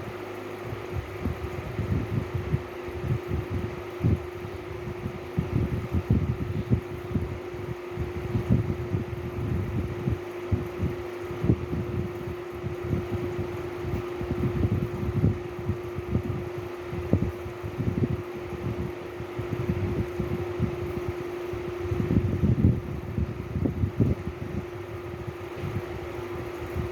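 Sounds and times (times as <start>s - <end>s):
mechanical fan hum: 0.0s - 26.9s.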